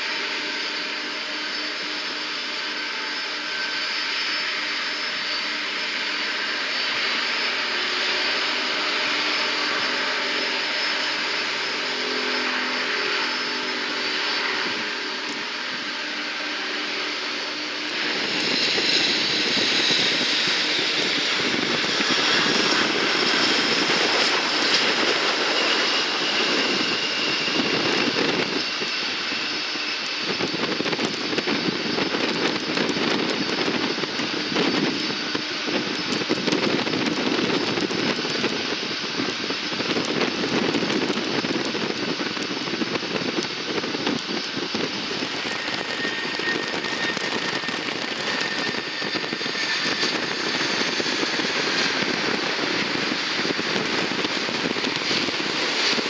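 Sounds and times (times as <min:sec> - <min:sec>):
high engine whine: 0:00.0 - 0:56.0
jet engines roaring: 0:00.0 - 0:56.0.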